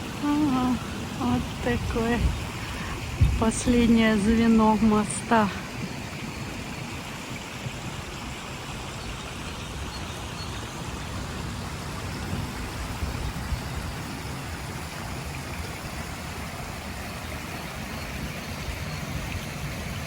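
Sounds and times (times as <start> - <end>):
low uneven rumble: 0.0 - 20.0
small stream running: 0.0 - 20.0.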